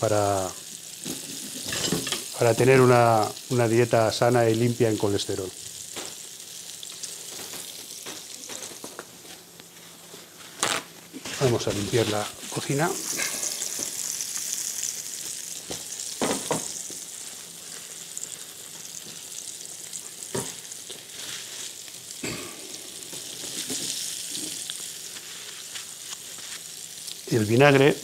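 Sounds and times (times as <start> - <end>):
fish sizzling in a pan: 0.0 - 28.0.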